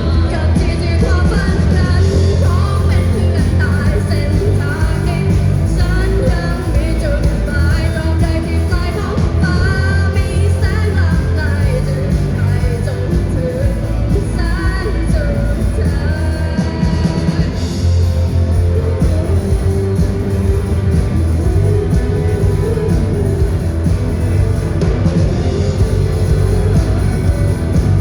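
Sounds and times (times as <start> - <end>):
heavy bass line: 0.0 - 28.0
live rock band playing: 0.0 - 28.0
person singing: 0.0 - 28.0.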